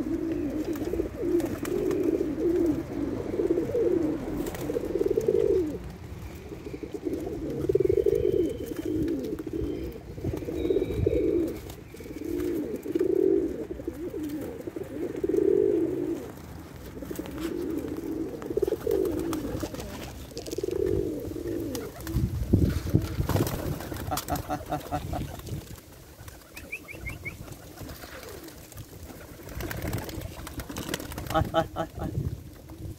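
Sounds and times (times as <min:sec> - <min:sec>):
pigeons cooing: 0:00.0 - 0:32.9.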